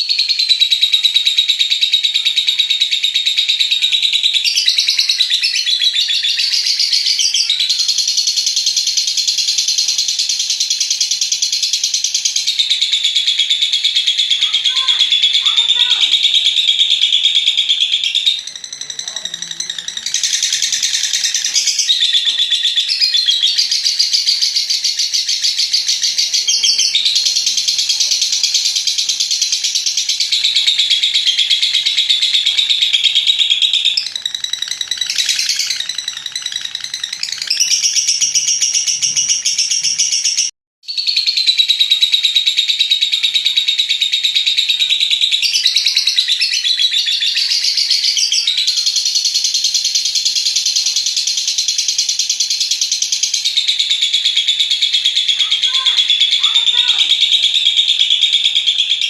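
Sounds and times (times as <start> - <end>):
lovebird chattering: 0.0 - 59.0.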